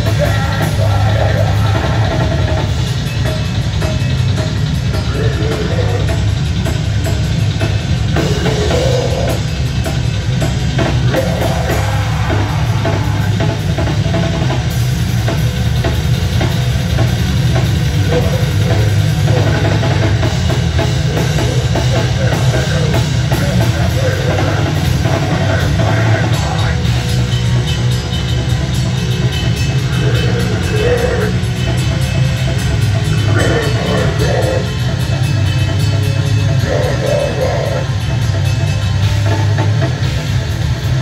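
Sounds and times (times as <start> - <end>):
heavy rock band playing: 0.0 - 41.0.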